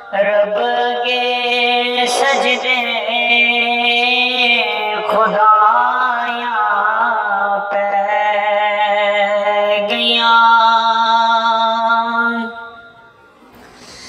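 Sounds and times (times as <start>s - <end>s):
man singing devotional song: 0.0s - 12.7s.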